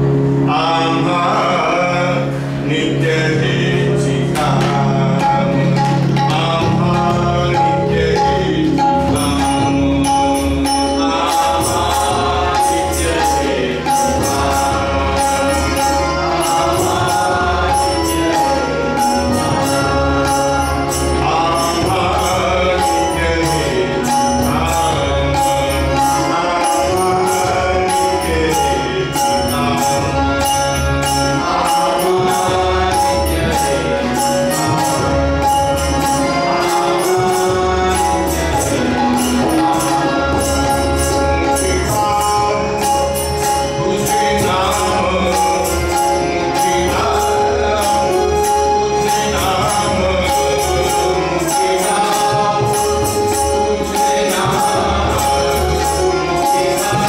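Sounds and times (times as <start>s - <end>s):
keyboard: 0.0s - 57.0s
man singing into a microphone: 0.0s - 57.0s
tabla: 0.0s - 57.0s
regular metallic beat: 4.3s - 57.0s.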